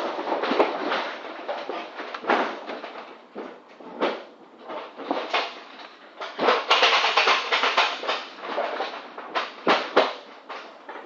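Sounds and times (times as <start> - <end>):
cargo rustling and scraping: 0.0 - 11.0.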